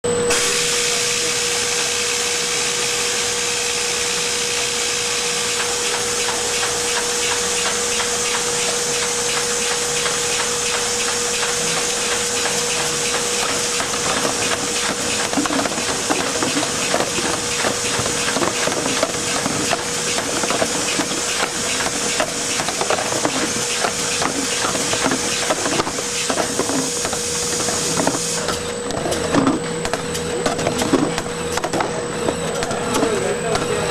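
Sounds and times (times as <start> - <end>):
machine hum: 0.0 - 33.9
machine hiss: 0.3 - 28.6
plastic containers clicking on conveyor: 5.9 - 33.8.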